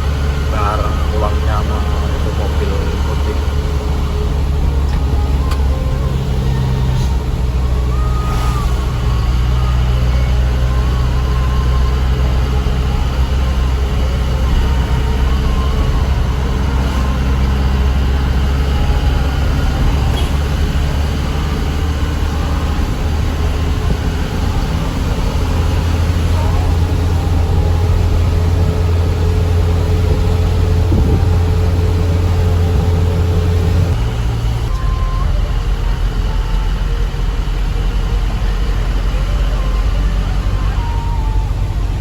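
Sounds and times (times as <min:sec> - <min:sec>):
truck engine droning: 0:00.0 - 0:42.0.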